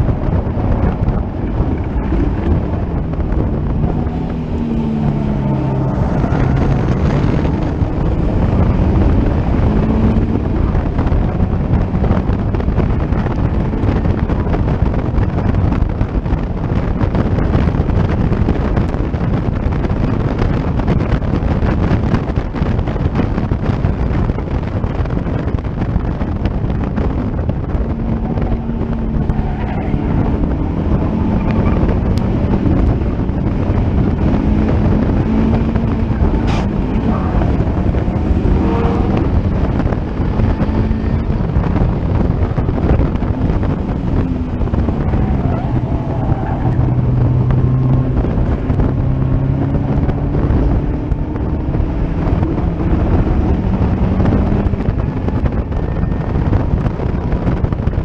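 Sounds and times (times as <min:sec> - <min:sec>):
racing car engine through gear changes: 0:00.0 - 0:58.0
wind buffeting on microphone: 0:00.0 - 0:58.0.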